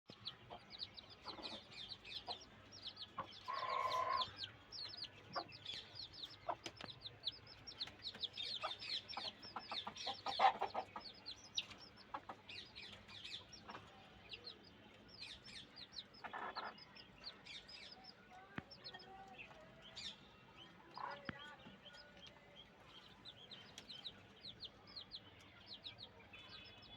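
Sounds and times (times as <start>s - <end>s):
hen clucking: 0.1s - 14.7s, 15.3s - 26.0s
chicks peeping: 0.1s - 26.9s.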